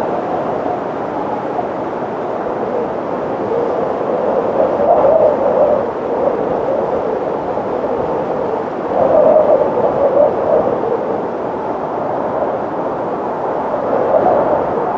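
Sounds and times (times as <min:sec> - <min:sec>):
wind blowing: 0:00.0 - 0:14.9.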